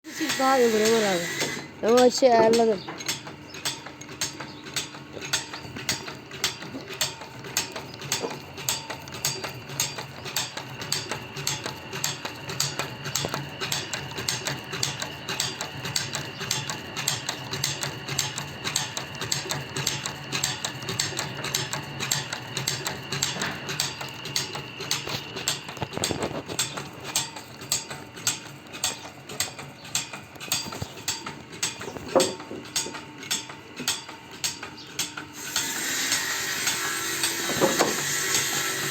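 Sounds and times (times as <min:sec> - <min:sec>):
motor hum: 0:00.1 - 0:38.9
machine clicking: 0:00.2 - 0:38.9.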